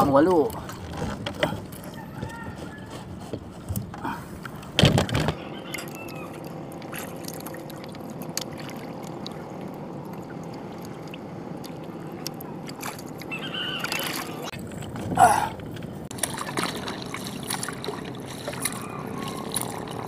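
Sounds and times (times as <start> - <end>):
water lapping against boat hull: 0.0 - 20.0.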